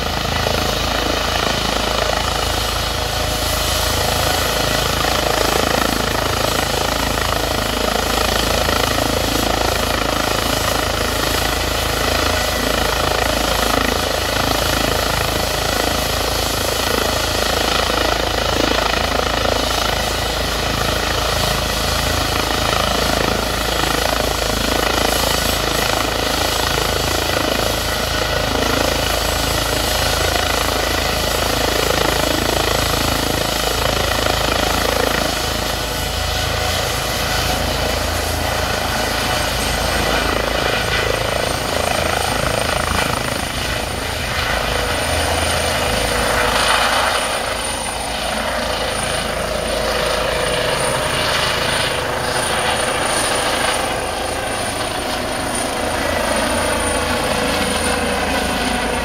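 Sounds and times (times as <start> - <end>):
helicopter rotor rush: 0.0 - 59.0
helicopter turbine whine: 0.0 - 59.0.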